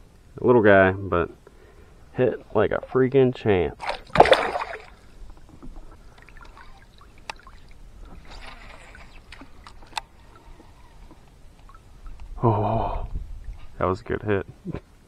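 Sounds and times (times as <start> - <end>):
faint water movement: 1.1 - 14.7.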